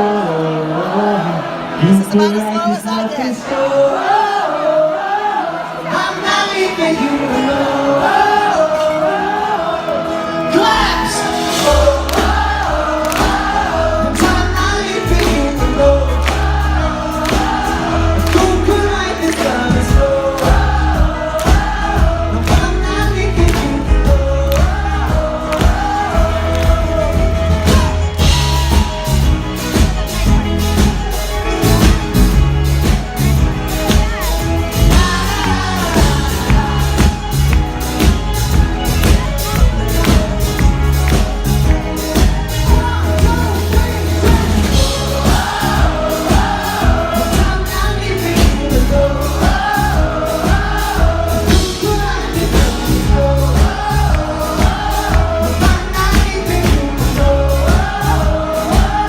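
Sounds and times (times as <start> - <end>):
many voices singing wordlessly: 0.0 - 2.0, 3.3 - 29.9, 34.6 - 39.0, 42.0 - 59.0
band playing: 0.0 - 59.0
bass: 10.5 - 59.0
steady drum beat: 11.4 - 59.0.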